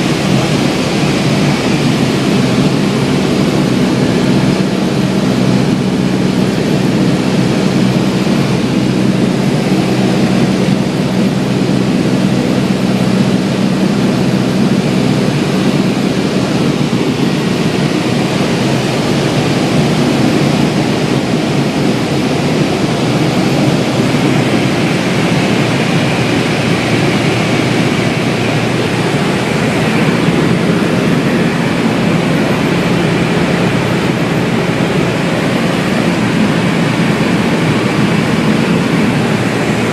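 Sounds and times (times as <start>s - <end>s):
light airplane engine droning: 0.0s - 39.9s
rushing airflow: 0.0s - 39.9s.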